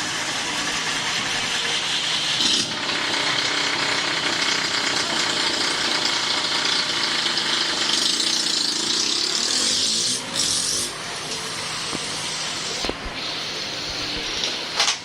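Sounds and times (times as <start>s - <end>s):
workshop machinery running: 0.0s - 15.0s.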